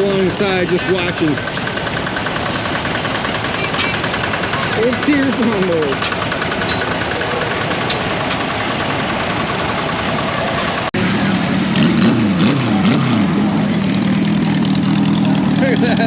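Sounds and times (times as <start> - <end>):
engine revving: 0.0 - 16.0
small tractor engines running: 0.0 - 16.0.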